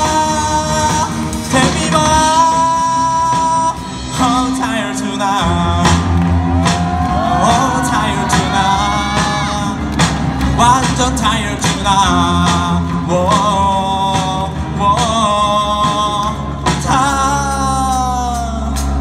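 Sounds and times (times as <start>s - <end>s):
live rock band playing: 0.0s - 19.0s
man singing long held notes: 0.0s - 19.0s.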